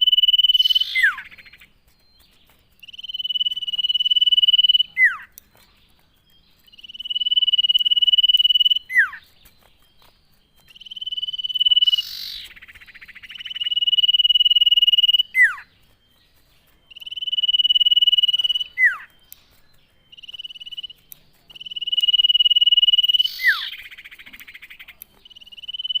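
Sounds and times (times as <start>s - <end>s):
bird whistling song: 0.0s - 26.0s.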